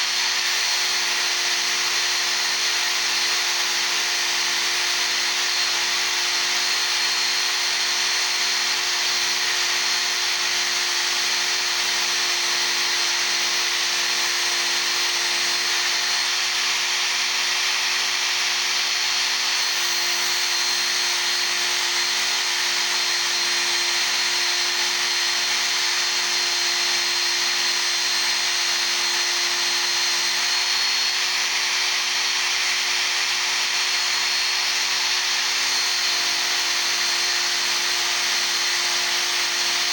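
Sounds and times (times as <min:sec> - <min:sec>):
belt sander grinding steel: 0:00.0 - 0:39.9.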